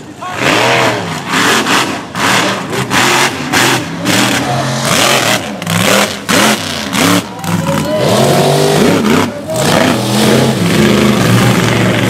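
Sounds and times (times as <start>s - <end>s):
truck engine revving in bursts: 0.3s - 12.0s.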